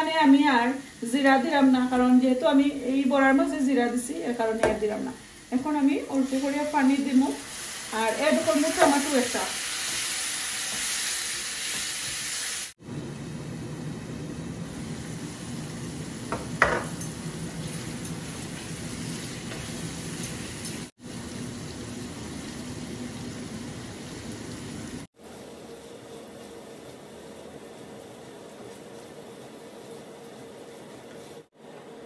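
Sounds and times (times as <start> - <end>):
curry sizzling in a frying pan: 0.0 - 31.6.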